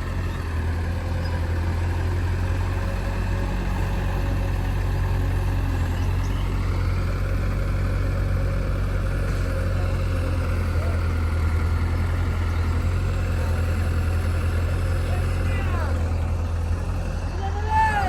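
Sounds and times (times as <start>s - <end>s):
diesel machinery engine humming: 0.0s - 18.0s.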